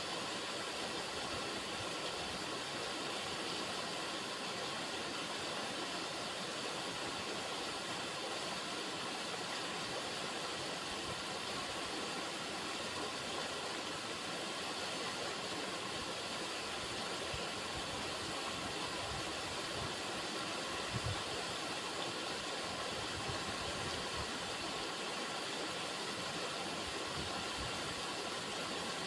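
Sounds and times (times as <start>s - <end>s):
river water running: 0.0s - 29.0s.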